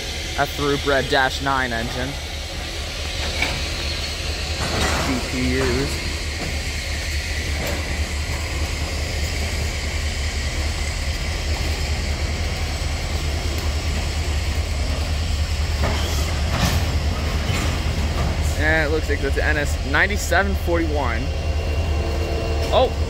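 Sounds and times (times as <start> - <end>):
freight train rolling on rails: 0.0 - 23.0.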